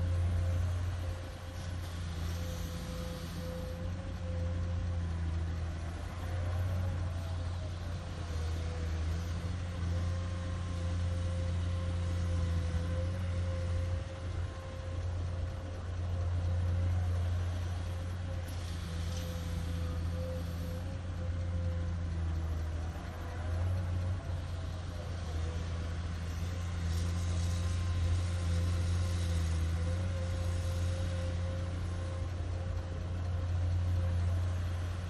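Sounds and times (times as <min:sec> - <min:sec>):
excavator diesel engine under load: 0:00.0 - 0:35.0.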